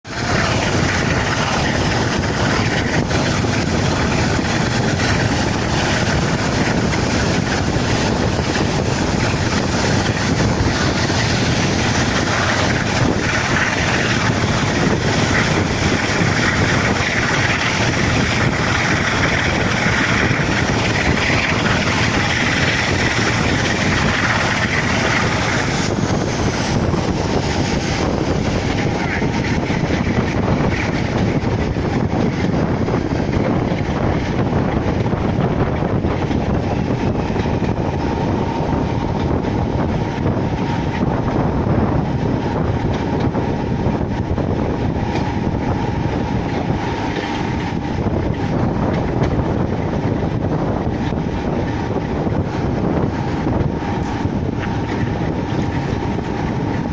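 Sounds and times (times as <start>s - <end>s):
diesel locomotive engine working hard: 0.0s - 56.9s
wind buffeting the microphone: 0.0s - 56.9s.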